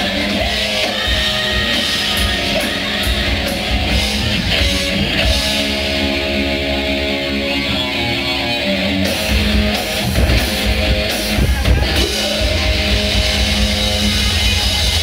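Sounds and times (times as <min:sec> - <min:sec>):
distorted electric guitar: 0:00.0 - 0:15.0
drums: 0:00.0 - 0:15.0.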